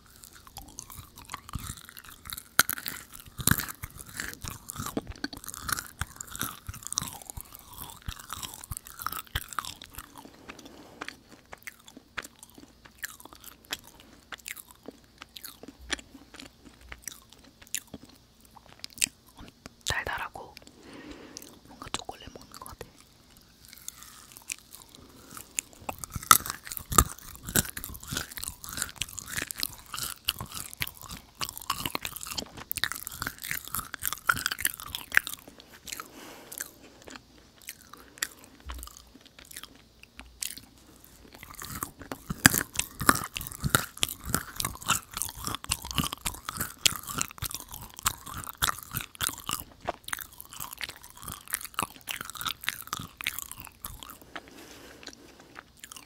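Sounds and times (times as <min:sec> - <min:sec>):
chewing sticky food: 0:00.0 - 0:56.0
wet mouth clicks: 0:00.0 - 0:56.0.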